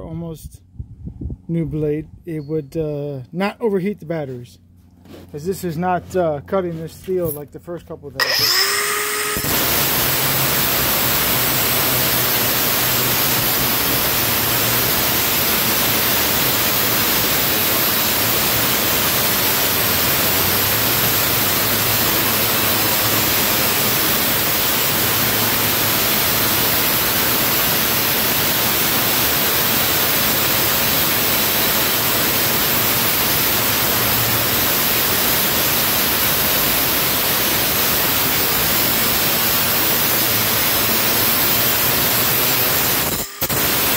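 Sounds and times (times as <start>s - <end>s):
angle grinder cutting steel: 8.2s - 43.9s.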